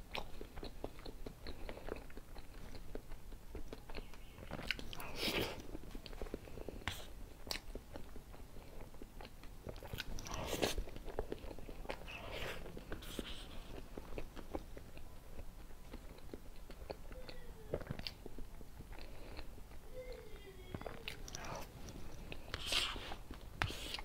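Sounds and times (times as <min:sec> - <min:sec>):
chewing and mouth sounds: 0:00.0 - 0:24.0.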